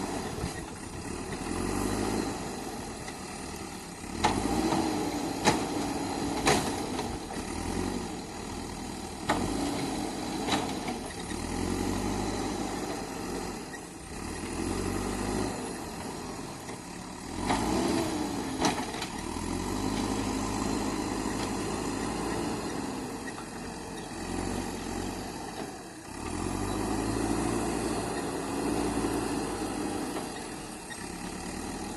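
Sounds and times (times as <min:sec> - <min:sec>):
diesel engine running under load: 0:00.0 - 0:31.9.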